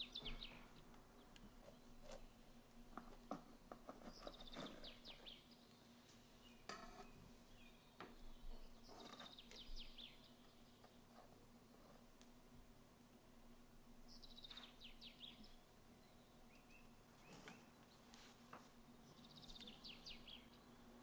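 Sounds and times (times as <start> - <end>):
faint bird chirping: 0.0 - 12.0, 13.5 - 21.0.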